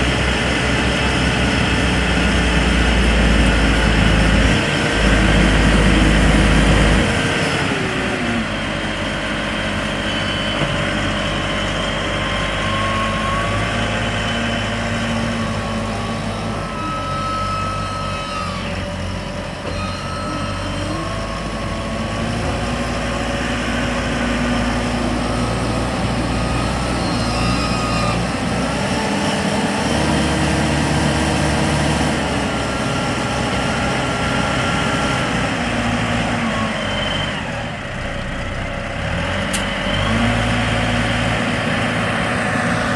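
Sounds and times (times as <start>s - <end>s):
diesel truck engine running: 0.0s - 42.9s.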